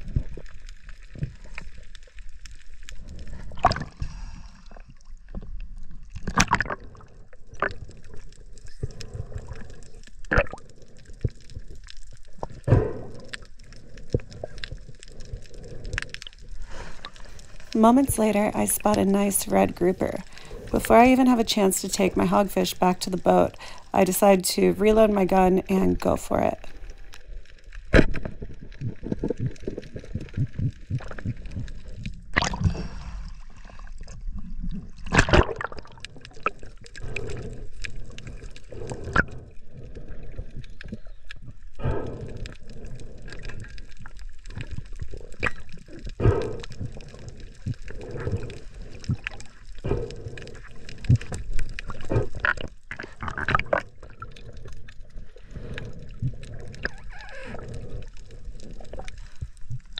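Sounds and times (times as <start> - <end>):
underwater sloshing and gurgling: 0.0 - 59.9.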